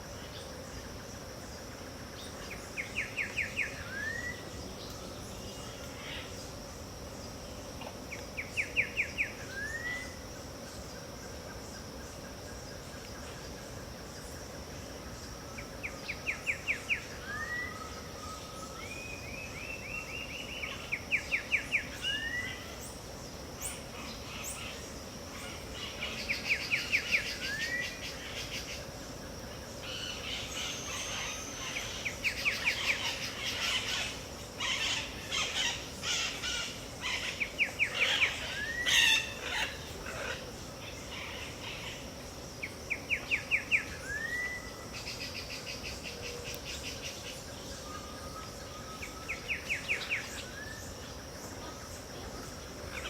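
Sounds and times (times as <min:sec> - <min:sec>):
high insect drone: 0:00.0 - 0:53.0
bird singing: 0:02.2 - 0:07.4, 0:08.1 - 0:14.4, 0:15.0 - 0:23.0, 0:23.6 - 0:53.0.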